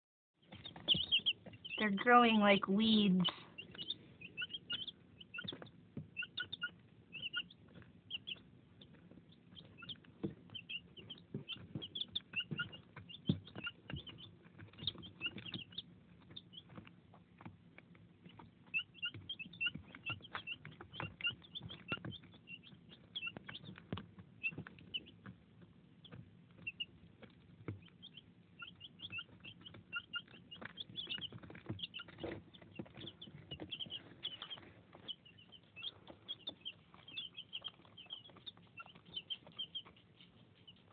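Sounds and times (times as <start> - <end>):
beaks pecking plastic feeder: 0.4 - 40.9
chicks peeping: 0.4 - 40.9.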